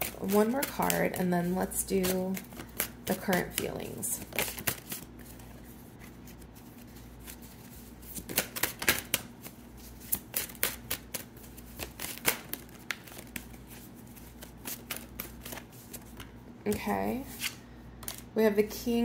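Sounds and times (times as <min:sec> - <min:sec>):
cards being shuffled by hand: 0:00.0 - 0:18.3.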